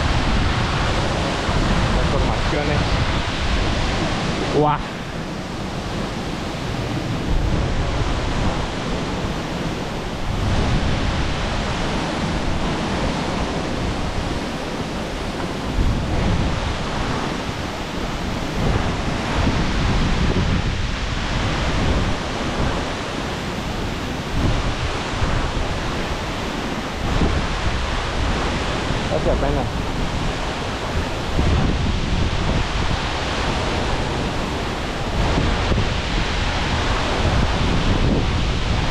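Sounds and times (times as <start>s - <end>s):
waterfall rushing: 0.0s - 38.9s
wind buffeting microphone: 0.0s - 38.9s.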